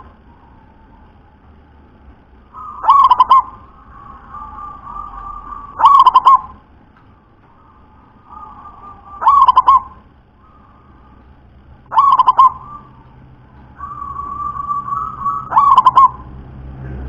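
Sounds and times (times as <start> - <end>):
dove cooing song: 0.0 - 1.5, 2.5 - 16.4.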